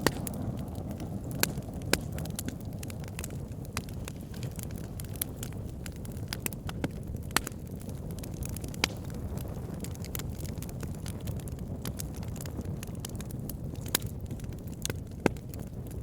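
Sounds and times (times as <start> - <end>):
logs burning with crackles: 0.0 - 16.0.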